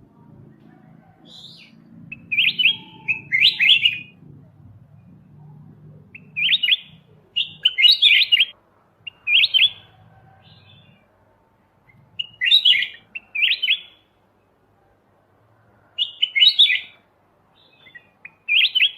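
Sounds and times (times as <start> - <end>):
bird chirping: 1.3 - 11.1, 11.8 - 14.5, 16.0 - 18.9.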